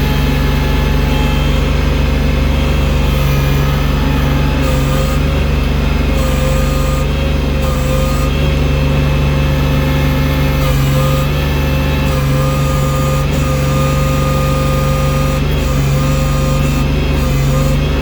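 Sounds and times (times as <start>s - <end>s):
snow-clearing machine engine droning: 0.0s - 18.0s.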